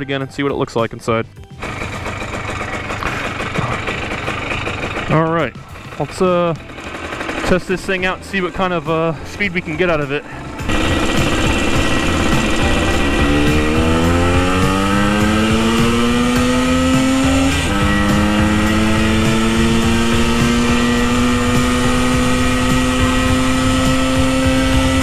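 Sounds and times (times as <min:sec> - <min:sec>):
two-stroke motorcycle accelerating: 0:01.5 - 0:25.0.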